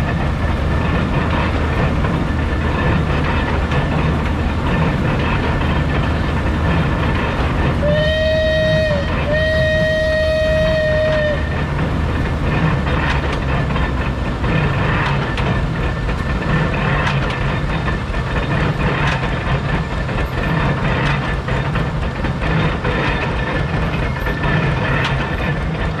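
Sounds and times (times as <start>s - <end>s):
hay baler rumbling and knocking: 0.0s - 26.0s.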